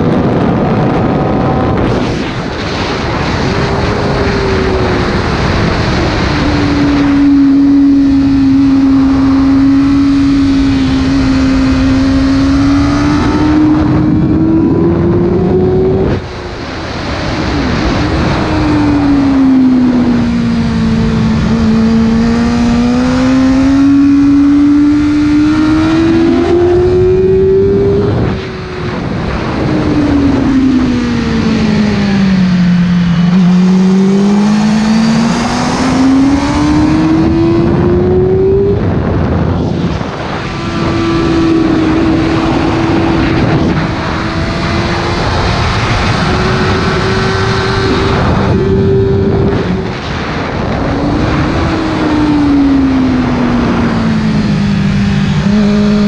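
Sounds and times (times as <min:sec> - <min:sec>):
motorcycle engine at high revs: 0:00.0 - 0:56.0
wind rush: 0:00.0 - 0:56.0.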